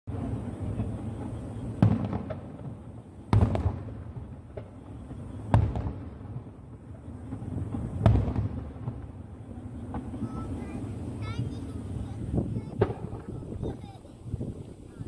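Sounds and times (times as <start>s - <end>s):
faint firework pops: 0.1s - 11.4s, 12.6s - 14.8s
firework booms with echo: 0.1s - 15.0s.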